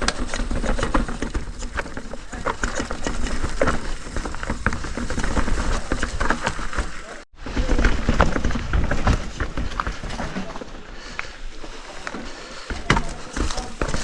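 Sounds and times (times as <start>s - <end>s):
mountain bike rattling: 0.0s - 14.0s.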